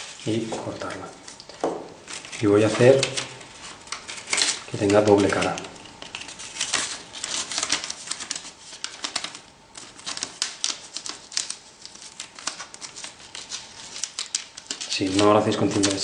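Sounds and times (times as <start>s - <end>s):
adhesive tape crackling: 1.2s - 16.0s.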